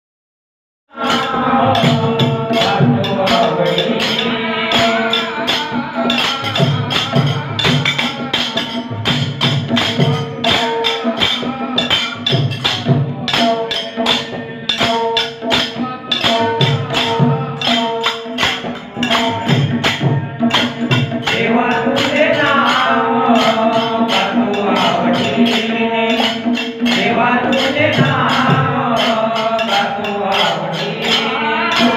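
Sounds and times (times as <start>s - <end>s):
hand-drum beats: 0.9s - 31.9s
jingling cymbals and tambourine: 1.0s - 31.9s.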